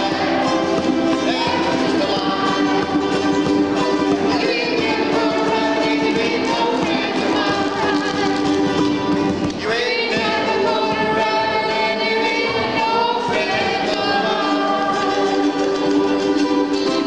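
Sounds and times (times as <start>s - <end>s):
group singing: 0.0s - 17.0s
ukulele strumming: 0.0s - 17.0s.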